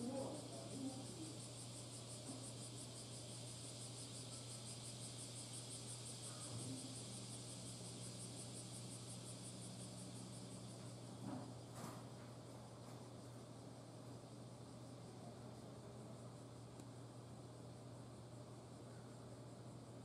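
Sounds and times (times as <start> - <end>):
insects trilling: 0.0 - 20.0
steady low hum: 0.0 - 20.0.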